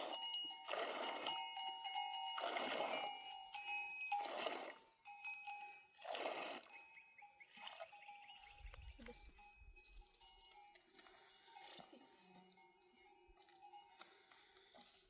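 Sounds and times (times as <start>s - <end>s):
animal bells clinking: 0.0s - 15.0s.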